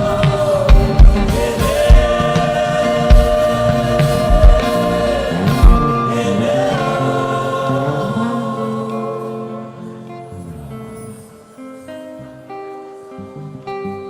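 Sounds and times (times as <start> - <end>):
choir singing gospel music: 0.0 - 12.6.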